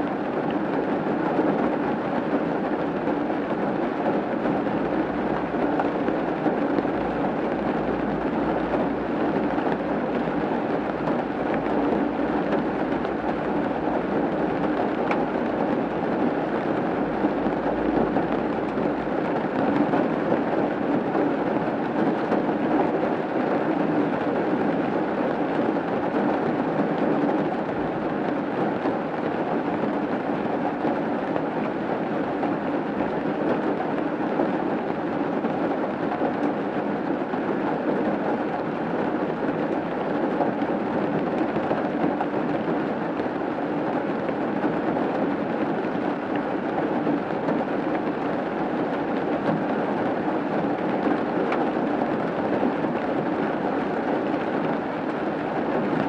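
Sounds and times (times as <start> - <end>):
rain on a roof: 0.0 - 56.0.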